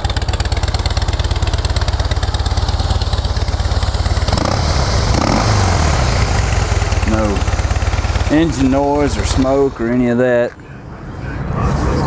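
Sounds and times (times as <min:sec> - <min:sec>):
motorcycle engine idling: 0:00.0 - 0:10.5.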